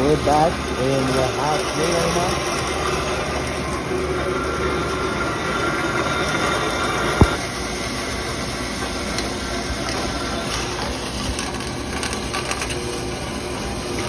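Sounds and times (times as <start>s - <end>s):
metal-cutting bandsaw running: 0.0s - 14.0s.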